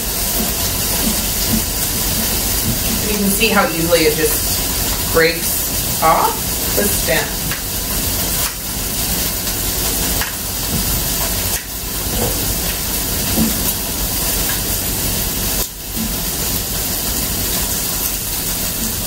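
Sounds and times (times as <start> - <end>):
loud steady hiss: 0.0 - 19.0.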